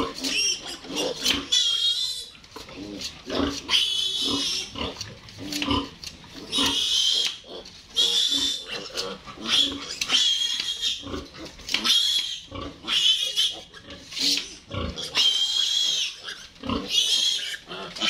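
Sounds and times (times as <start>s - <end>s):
piglet grunting squeals: 0.0s - 2.3s, 3.0s - 5.6s, 6.5s - 18.0s.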